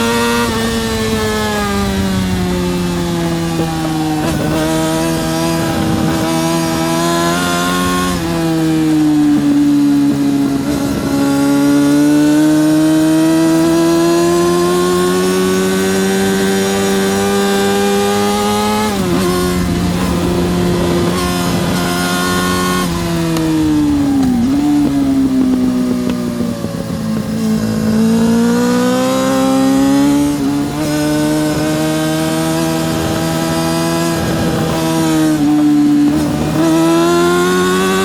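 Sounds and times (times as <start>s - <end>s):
racing motorcycle engine revving: 0.0s - 38.0s.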